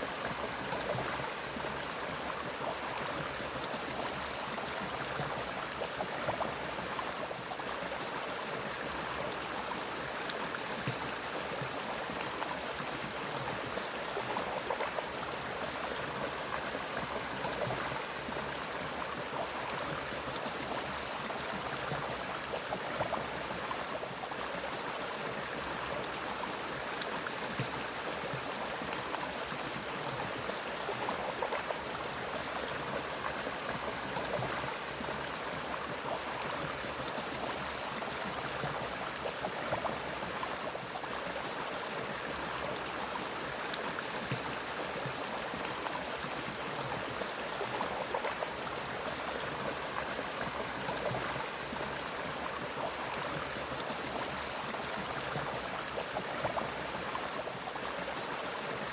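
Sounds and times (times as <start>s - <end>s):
stream gurgling over rocks: 0.0s - 58.9s.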